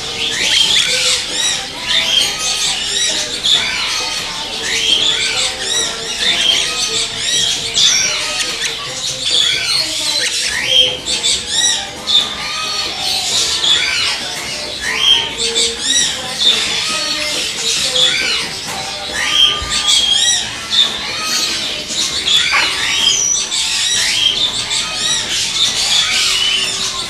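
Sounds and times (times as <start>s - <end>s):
parrots chirping and squawking: 0.0s - 27.0s.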